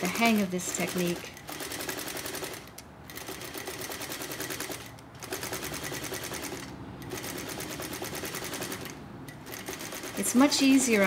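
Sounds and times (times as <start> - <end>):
sewing machine stitching fast: 0.0 - 11.0.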